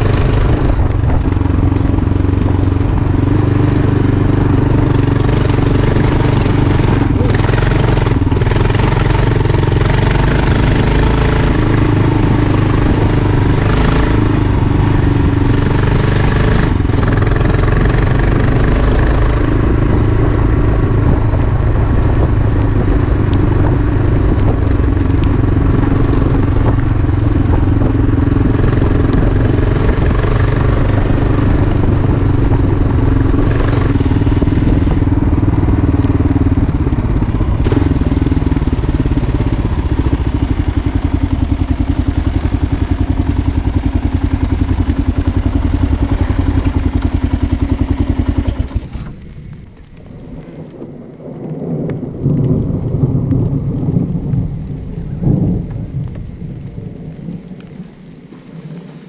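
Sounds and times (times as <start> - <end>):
rolling thunder: 0.0 - 46.6, 48.6 - 58.8
motorcycle engine running and idling: 0.0 - 50.0
rain falling: 0.0 - 59.0.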